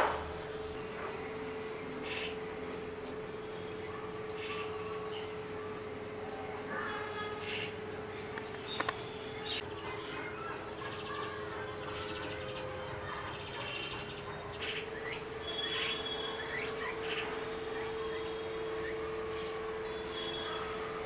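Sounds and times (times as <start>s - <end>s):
steady low hum: 0.0s - 21.0s
small birds chirping: 0.2s - 21.0s.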